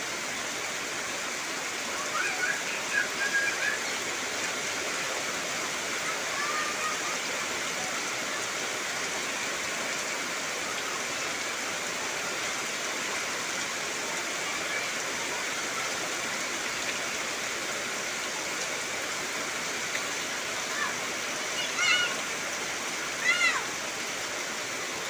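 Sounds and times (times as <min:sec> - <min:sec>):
heavy rain on trees: 0:00.0 - 0:25.0.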